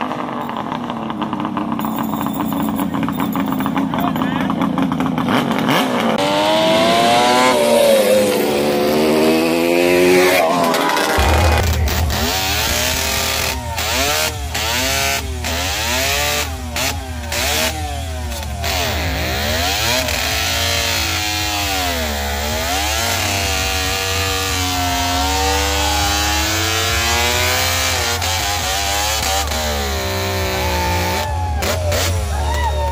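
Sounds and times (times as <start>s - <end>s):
two-stroke engine revving: 0.0s - 32.9s.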